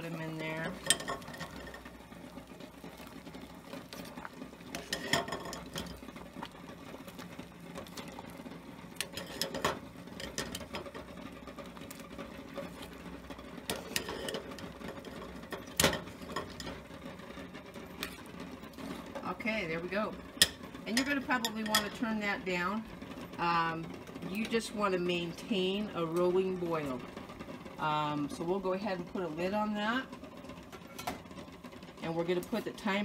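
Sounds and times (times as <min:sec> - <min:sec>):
water boiling with eggs rattling: 0:00.0 - 0:33.0.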